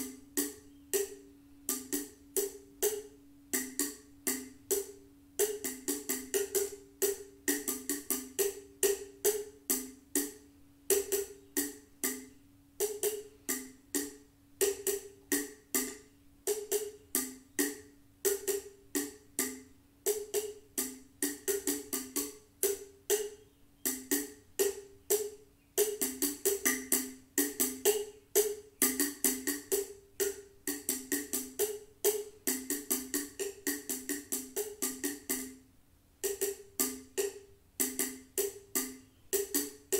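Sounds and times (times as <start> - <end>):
rhythmic hand percussion strikes: 0.0 - 39.9.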